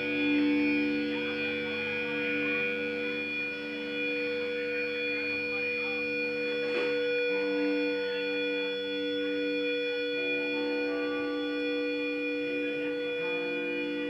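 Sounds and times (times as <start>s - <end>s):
electric guitar and bass ringing: 0.0s - 14.0s.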